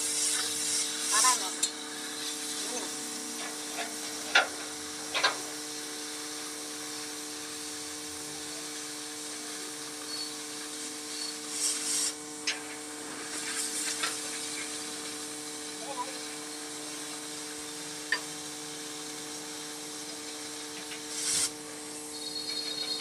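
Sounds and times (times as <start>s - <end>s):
cutting torch hissing: 0.0s - 23.0s
steady low hum: 0.0s - 23.0s.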